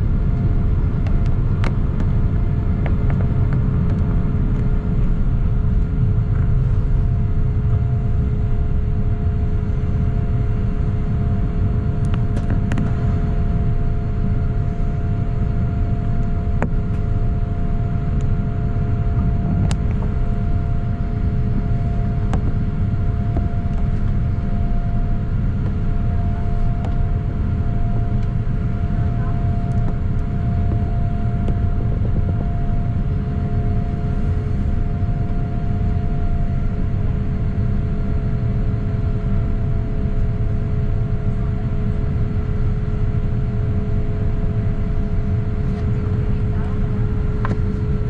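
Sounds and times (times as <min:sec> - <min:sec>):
jet engine and airflow rumble: 0:00.0 - 0:48.0
steady hum: 0:00.0 - 0:48.0.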